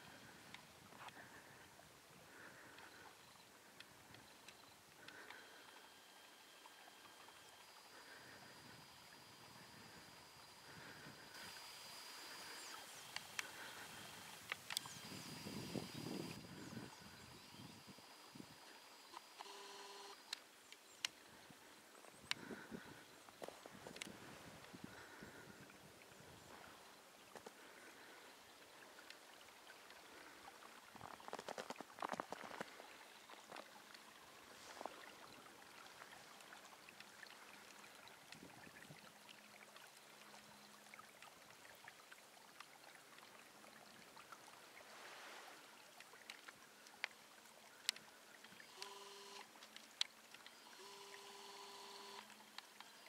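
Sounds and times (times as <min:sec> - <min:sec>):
stream trickling: 0:00.0 - 0:53.0.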